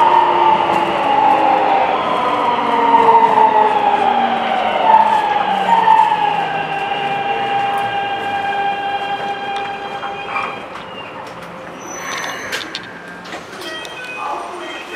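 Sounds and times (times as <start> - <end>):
train inverter whine: 0.0 - 14.9.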